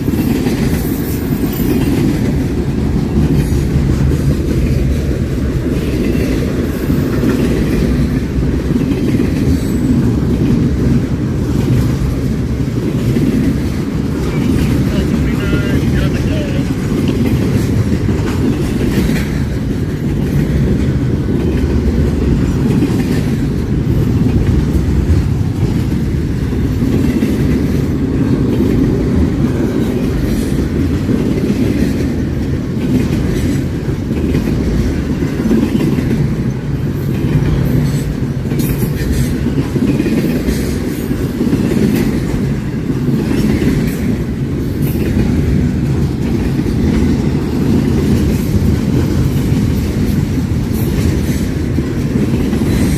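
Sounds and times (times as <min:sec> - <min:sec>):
train cars rumbling past: 0:00.0 - 0:52.9
wheels clicking over rail joints: 0:00.0 - 0:52.9.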